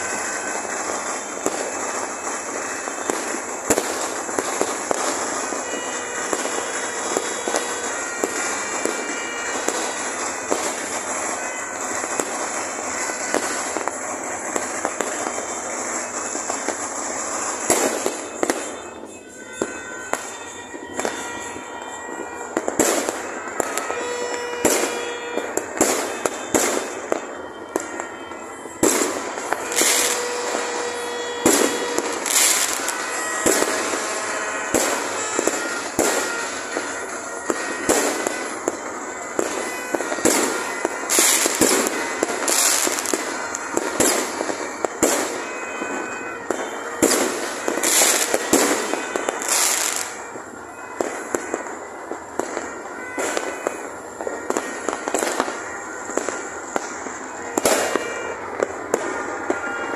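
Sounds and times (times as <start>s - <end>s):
distant fireworks crackling: 0.0s - 59.9s
fireworks bangs: 0.0s - 59.9s.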